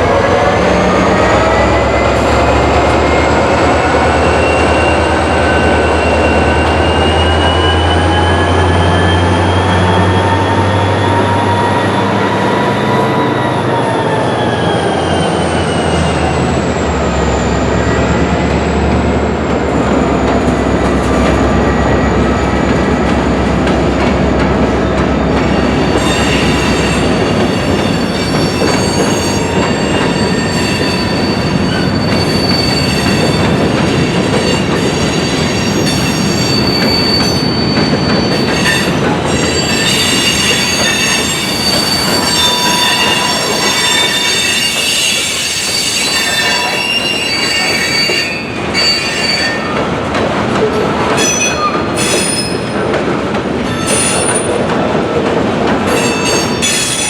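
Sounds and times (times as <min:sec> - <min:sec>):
steel wheels squealing: 0:00.4 - 0:18.9, 0:25.3 - 0:49.9, 0:50.8 - 0:52.8, 0:53.7 - 0:54.6, 0:55.9 - 0:57.0.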